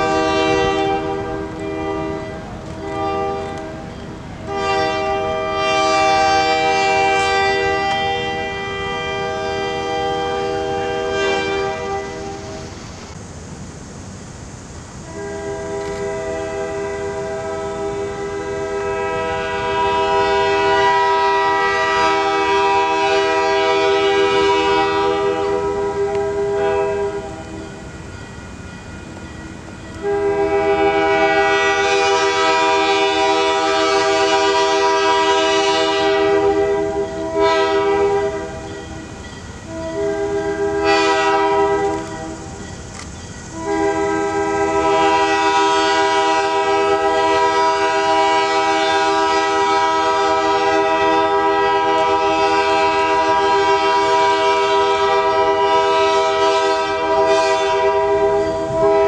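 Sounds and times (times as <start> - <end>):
locomotive air horn chord: 0.0 - 12.8, 15.0 - 27.9, 29.9 - 42.6, 43.5 - 59.0
train rumble: 0.0 - 59.0.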